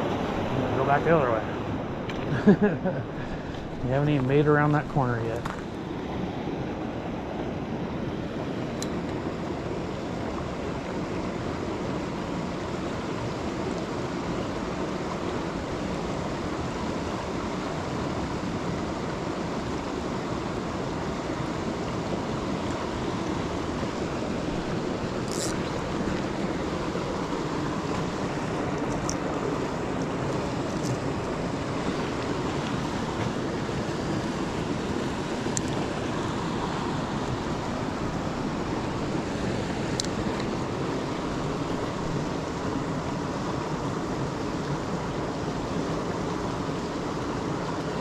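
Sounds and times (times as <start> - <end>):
river rushing over rocks: 0.0 - 48.0.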